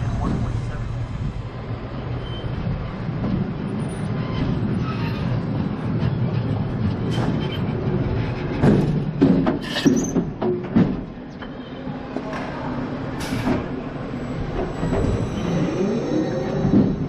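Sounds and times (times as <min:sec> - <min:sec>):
roller coaster clunks: 0:00.0 - 0:00.9, 0:02.2 - 0:17.0
roller coaster wheels rattling: 0:00.0 - 0:17.0.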